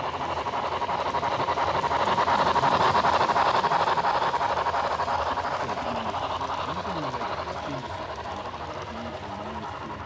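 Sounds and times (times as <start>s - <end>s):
model train clattering rumble: 0.0s - 10.0s.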